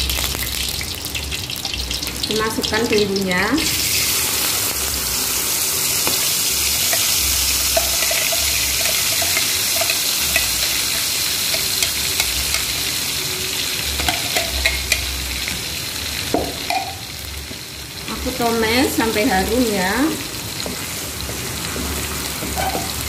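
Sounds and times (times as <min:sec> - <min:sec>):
paste sizzling in hot oil: 0:00.0 - 0:23.0.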